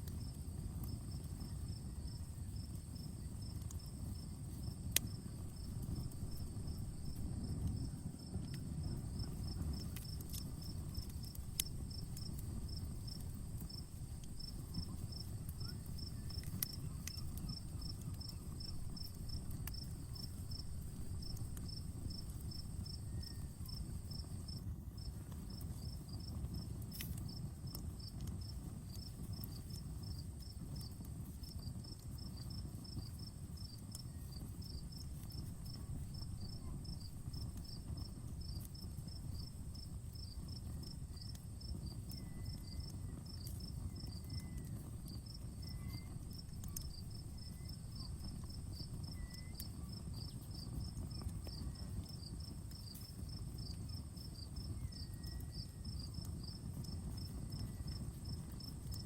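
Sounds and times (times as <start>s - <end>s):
campfire rumble and crackles: 0.0s - 59.0s
crickets chirping: 0.1s - 27.4s, 28.0s - 59.0s.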